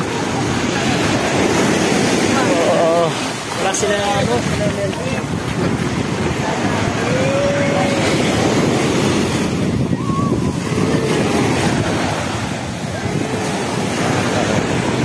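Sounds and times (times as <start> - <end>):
small waves on sandy beach: 0.0 - 15.0
wind noise on microphone: 0.0 - 15.0.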